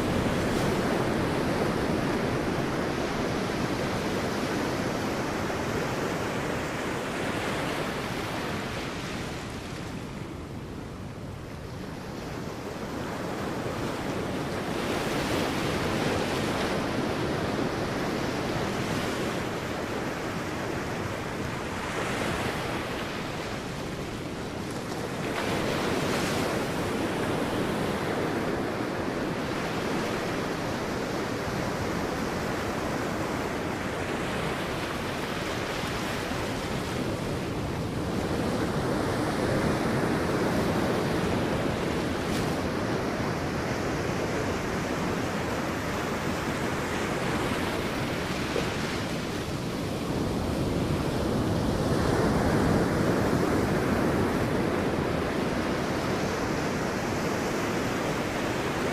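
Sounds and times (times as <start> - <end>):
sea waves breaking on beach: 0.0 - 58.9.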